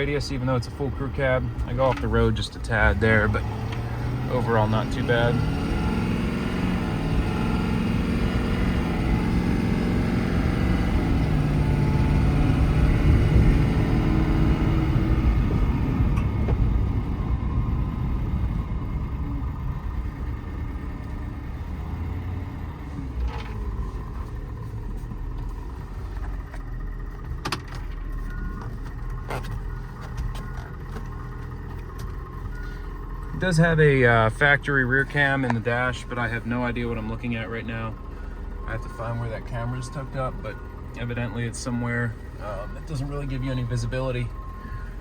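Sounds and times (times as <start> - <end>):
diesel pickup engine driving: 0.0 - 45.0.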